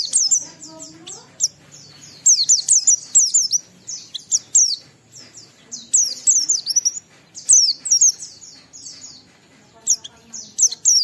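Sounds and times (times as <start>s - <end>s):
bird twittering song: 0.0s - 11.0s.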